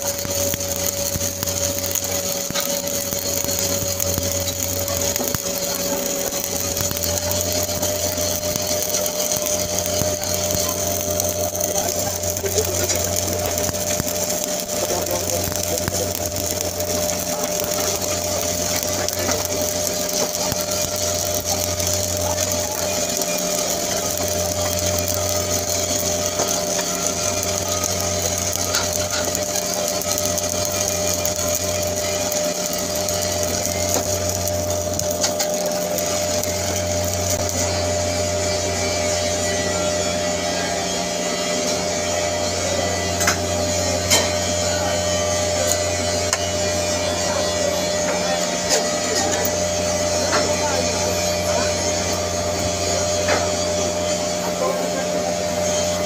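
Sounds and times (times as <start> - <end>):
machine hum: 0.0 - 56.0
welding arc crackling and hissing: 0.0 - 56.0.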